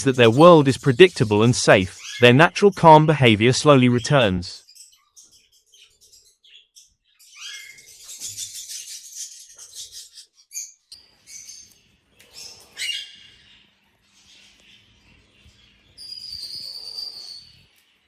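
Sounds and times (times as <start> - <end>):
parrots chirping and chattering: 0.0 - 18.0.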